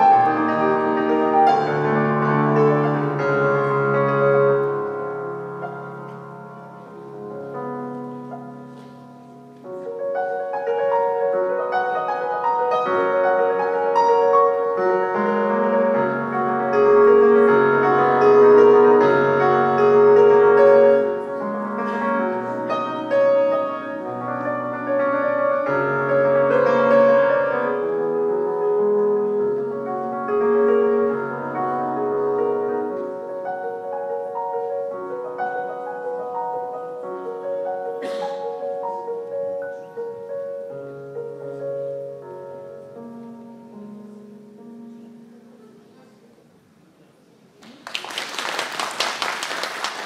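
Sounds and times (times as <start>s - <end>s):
electronic keyboard piano piece: 0.0s - 46.3s.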